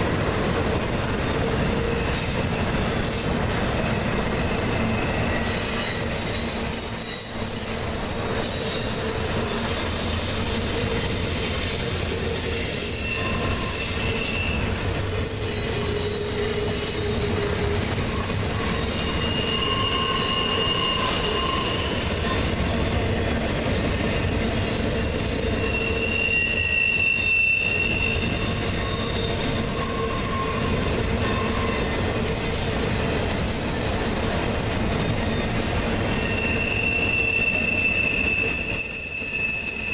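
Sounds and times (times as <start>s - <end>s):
train wheels rumbling on rail: 0.0s - 39.9s
wheel flanges squealing: 0.8s - 22.8s, 23.9s - 39.9s.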